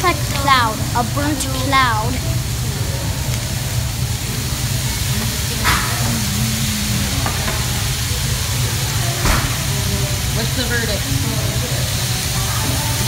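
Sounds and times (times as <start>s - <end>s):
food sizzling on a griddle: 0.0s - 13.0s
low steady hum: 0.0s - 13.0s.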